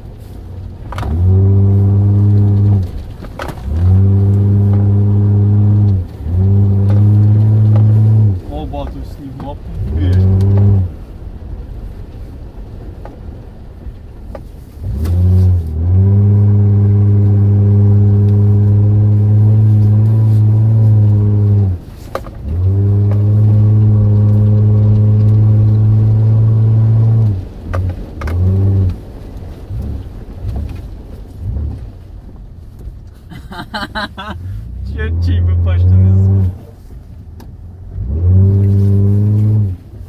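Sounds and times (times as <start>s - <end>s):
car engine revving: 0.0s - 11.6s, 14.2s - 40.0s.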